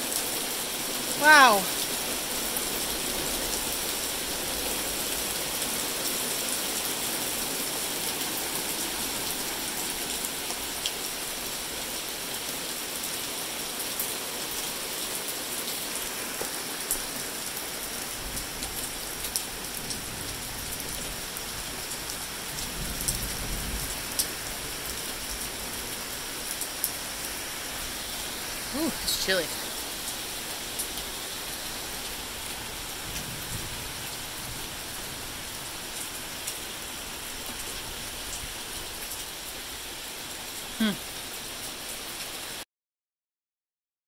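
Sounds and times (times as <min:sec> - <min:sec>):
heavy rain on lawn and trees: 0:00.0 - 0:42.6
sharp ticks of raindrops: 0:00.1 - 0:42.6.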